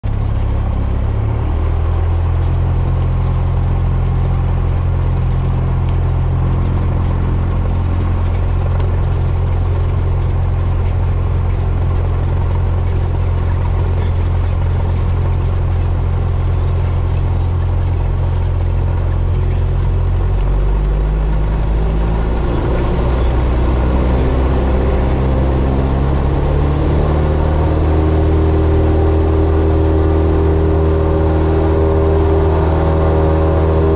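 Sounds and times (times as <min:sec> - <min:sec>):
airplane piston engine and propeller: 0:00.0 - 0:33.9.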